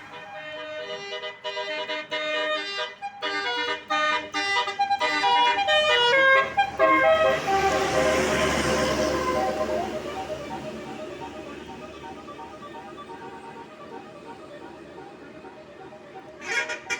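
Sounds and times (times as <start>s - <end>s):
musical air horn tune: 0.0s - 14.2s, 16.0s - 16.9s.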